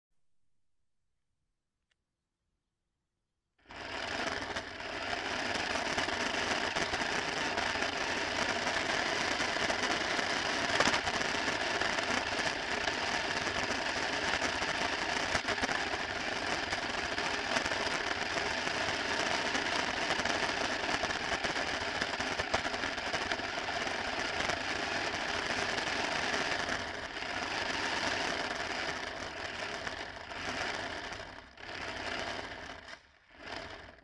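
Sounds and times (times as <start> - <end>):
rc car motor whirring: 3.7 - 34.0
tyres rolling over asphalt: 3.8 - 34.0.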